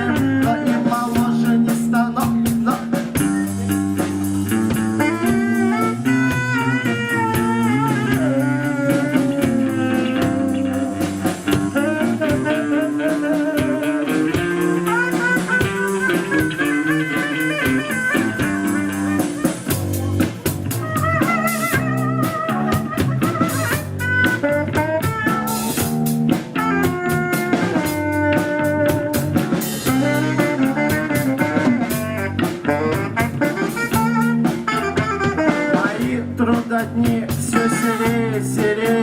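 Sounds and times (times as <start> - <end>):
bending melodic lead line: 0.0 - 39.0
rock band playing live: 0.0 - 39.0.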